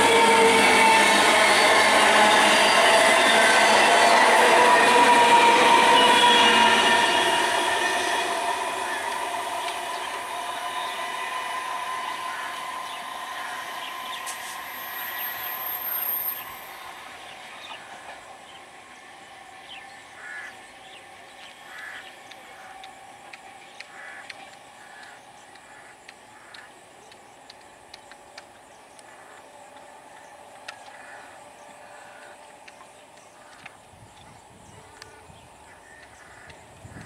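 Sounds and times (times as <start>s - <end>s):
electric train running on tracks: 0.0s - 37.0s.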